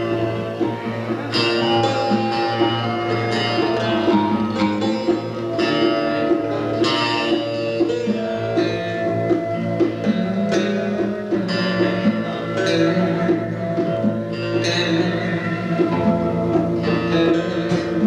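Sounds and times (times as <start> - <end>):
plucked string rapid notes: 0.0 - 18.0.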